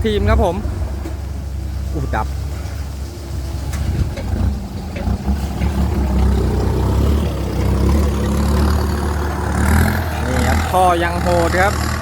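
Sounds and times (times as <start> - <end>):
tractor diesel engine rumble: 0.0 - 12.0.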